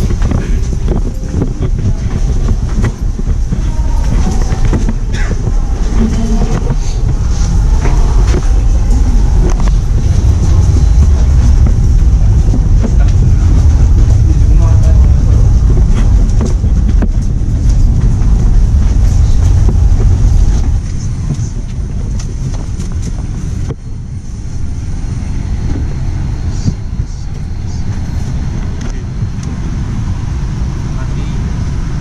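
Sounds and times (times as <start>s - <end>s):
aircraft air-conditioning rumble: 0.0s - 32.0s.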